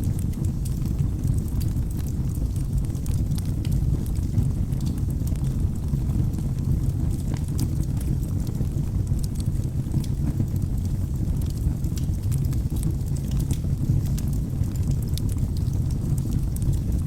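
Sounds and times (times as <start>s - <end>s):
logs crackling and popping: 0.0s - 17.0s
rumble of flames: 0.0s - 17.0s.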